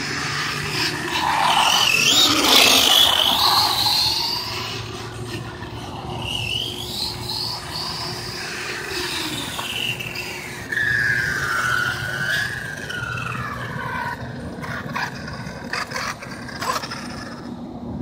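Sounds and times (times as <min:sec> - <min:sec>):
electric toy truck motor whining: 0:00.0 - 0:17.4.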